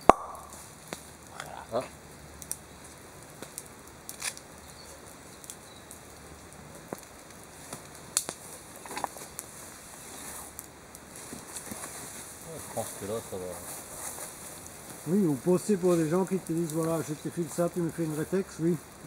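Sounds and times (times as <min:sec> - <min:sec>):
campfire crackling and popping: 0:00.0 - 0:19.0
faint background hiss: 0:00.0 - 0:19.0.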